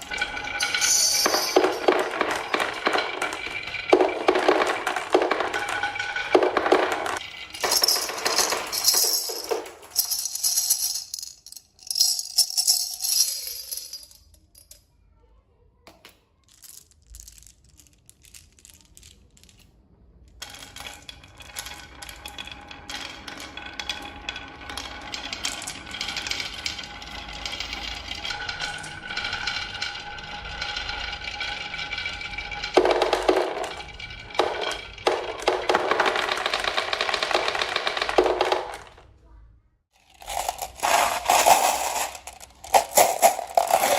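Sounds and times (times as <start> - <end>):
marbles clattering down wooden run: 0.0 - 14.2, 20.4 - 39.0, 40.0 - 43.9.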